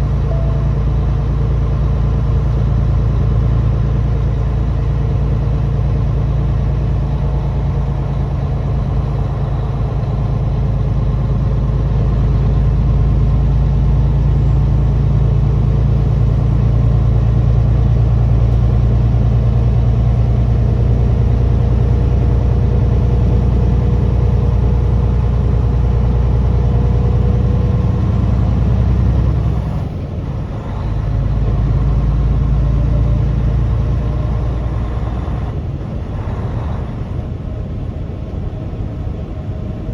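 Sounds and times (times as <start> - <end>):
truck diesel engine driving: 0.0 - 39.9.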